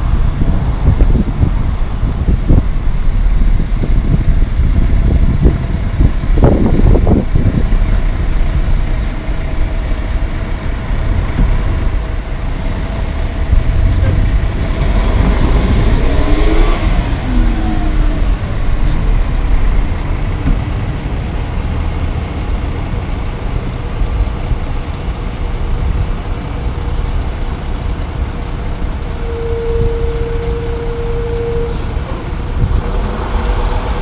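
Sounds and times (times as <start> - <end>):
dump truck diesel engine: 0.0 - 34.0.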